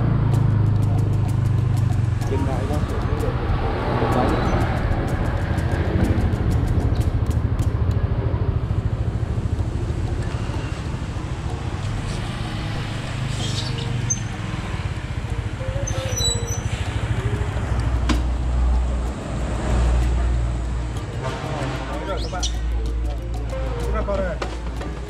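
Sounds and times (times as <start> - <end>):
scooter engine running: 0.0 - 25.0.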